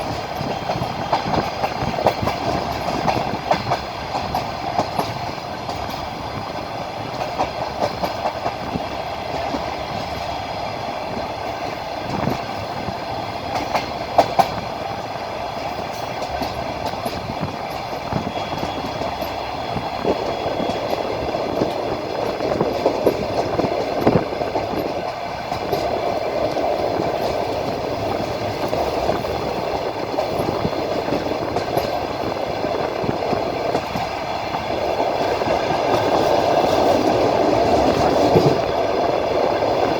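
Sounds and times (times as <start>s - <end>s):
train running rumble: 0.0s - 39.9s
train wheels clacking over rail joints: 0.0s - 39.9s.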